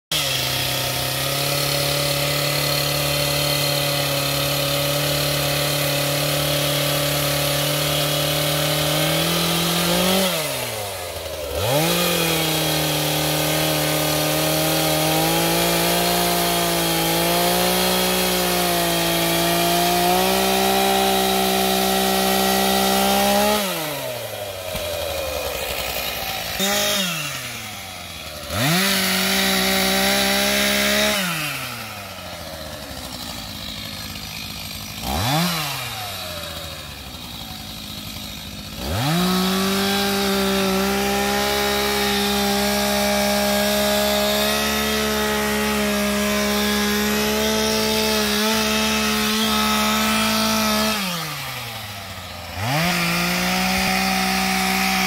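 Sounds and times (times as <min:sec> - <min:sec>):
chainsaw cutting trees: 0:00.0 - 0:55.0.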